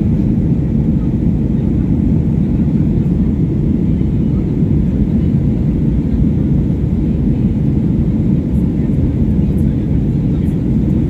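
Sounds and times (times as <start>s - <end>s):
airliner climbing rumble: 0.0s - 11.0s.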